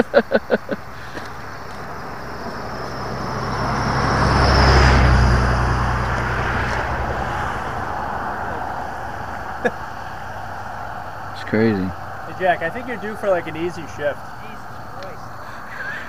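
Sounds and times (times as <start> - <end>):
vehicle passing close by: 0.7 - 15.9.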